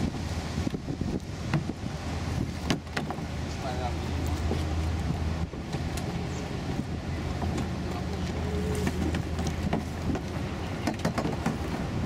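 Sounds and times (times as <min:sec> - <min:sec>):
low outdoor rumble and hum: 0:00.0 - 0:12.0
wind on microphone: 0:00.0 - 0:12.0.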